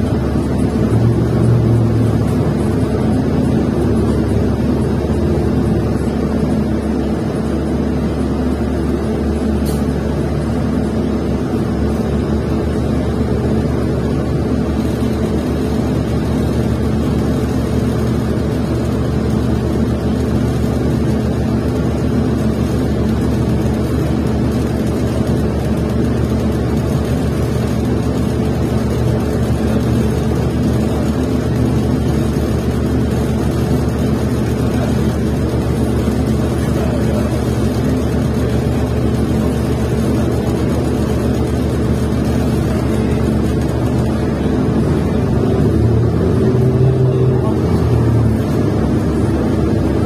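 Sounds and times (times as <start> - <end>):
bus engine droning: 0.0 - 50.0.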